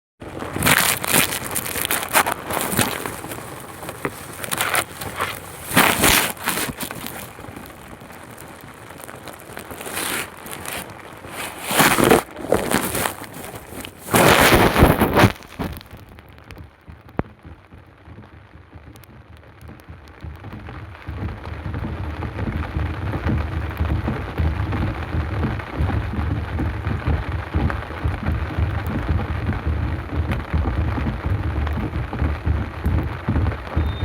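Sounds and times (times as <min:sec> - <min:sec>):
heavy rain falling: 0:00.2 - 0:34.0.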